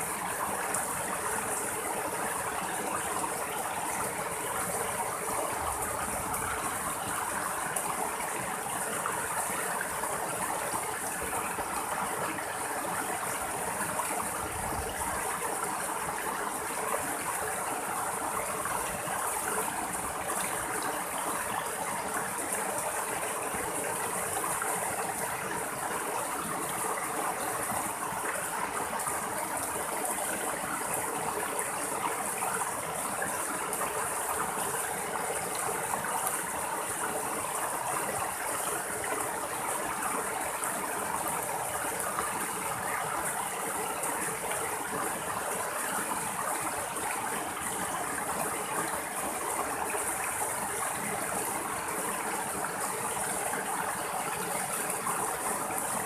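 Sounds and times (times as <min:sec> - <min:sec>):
stream splashing over rocks: 0:00.0 - 0:56.0.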